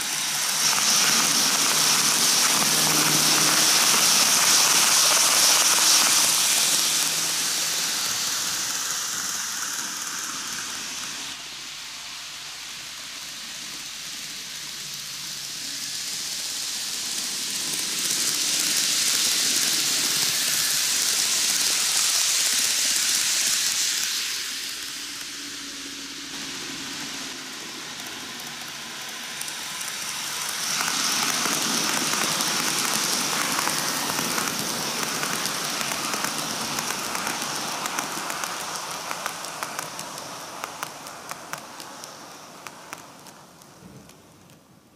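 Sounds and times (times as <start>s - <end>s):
model train wheels rolling on rail: 0.0s - 44.9s.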